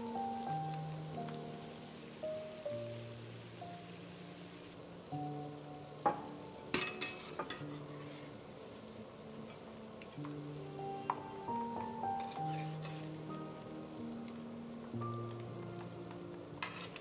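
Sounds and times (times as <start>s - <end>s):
dough sizzling in oil: 0.0s - 17.0s
soft background music: 0.0s - 17.0s.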